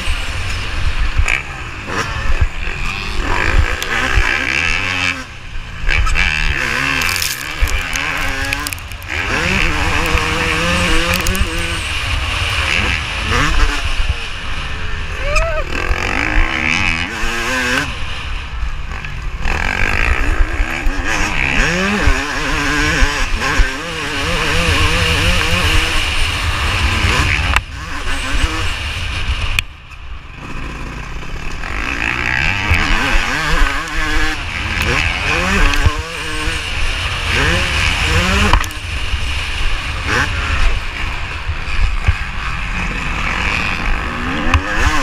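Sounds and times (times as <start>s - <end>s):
motocross engine revving: 0.0s - 29.6s, 30.3s - 45.0s
wind rumble on microphone: 0.0s - 45.0s.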